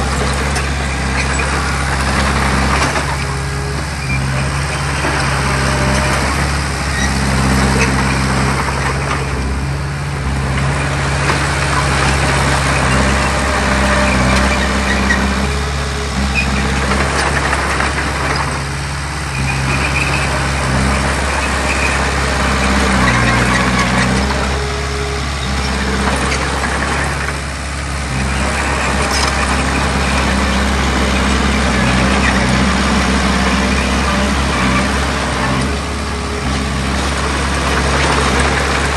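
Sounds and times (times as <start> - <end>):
rattling scraping noise: 0.0 - 9.6, 10.2 - 38.9
diesel engine running: 0.0 - 38.9.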